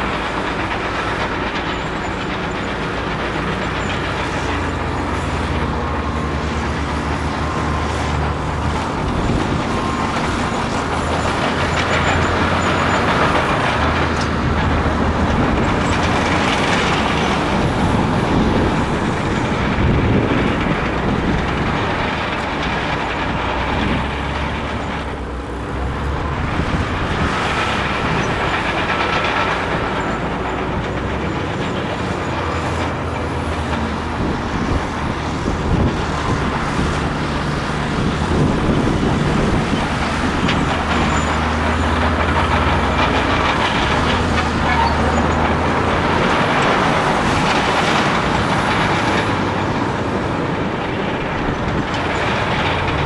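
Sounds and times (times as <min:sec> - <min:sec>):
diesel engine under load: 0:00.0 - 0:53.0
steel tracks clattering and grinding: 0:00.0 - 0:53.0.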